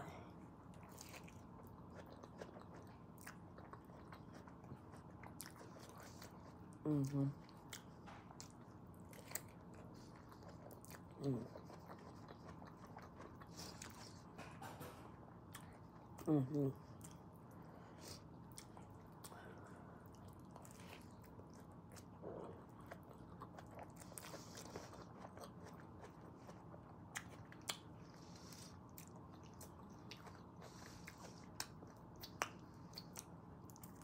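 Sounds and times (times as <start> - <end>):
faint chewing: 0.1 - 34.0.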